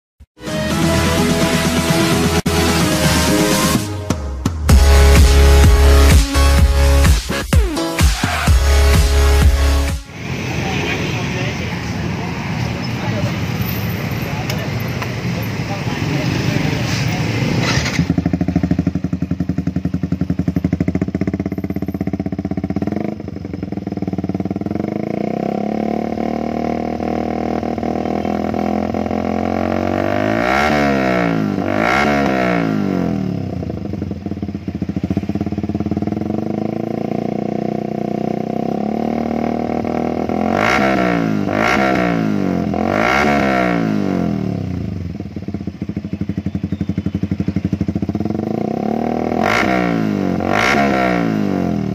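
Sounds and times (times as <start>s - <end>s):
motorcycle engine idling and revving: 1.1s - 51.9s.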